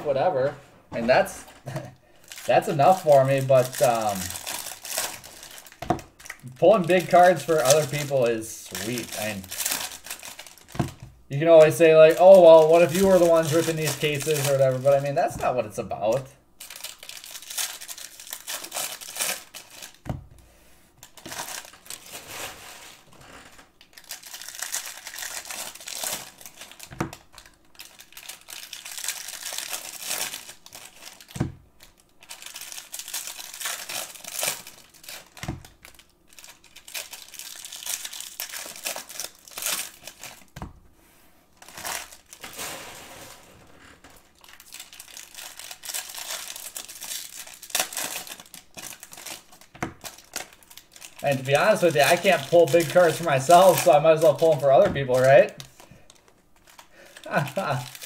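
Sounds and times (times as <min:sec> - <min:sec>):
foil wrappers tearing and crinkling: 0:01.1 - 0:20.0, 0:21.0 - 0:40.6, 0:41.6 - 0:58.0.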